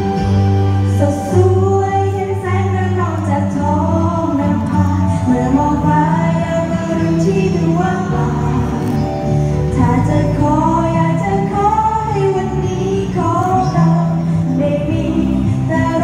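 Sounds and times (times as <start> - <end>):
pop backing track: 0.0 - 16.0
women singing together: 1.0 - 9.0, 9.7 - 16.0.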